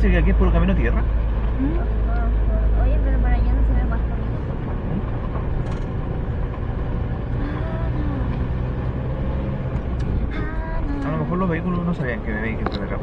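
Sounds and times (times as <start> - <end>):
car engine hum: 0.0 - 13.0
tyres on dirt road: 0.0 - 13.0.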